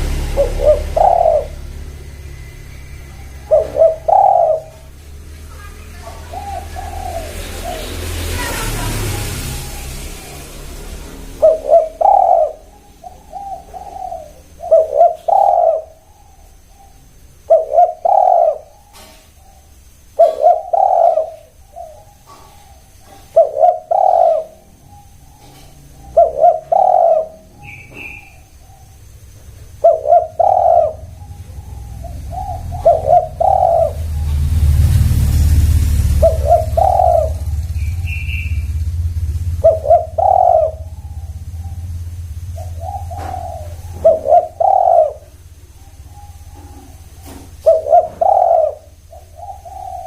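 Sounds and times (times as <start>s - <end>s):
dove cooing: 0.0s - 50.0s
high bird chirp: 0.0s - 50.0s.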